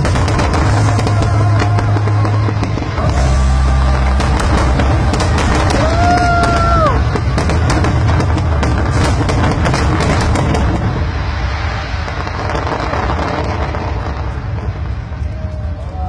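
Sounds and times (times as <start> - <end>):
fireworks crackling bursts: 0.0 - 16.0
fireworks low rumble: 0.0 - 16.0.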